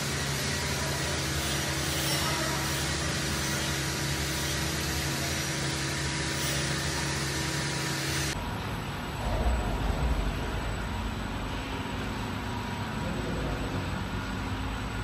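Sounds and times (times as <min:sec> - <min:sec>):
factory machine hum: 0:00.0 - 0:15.0.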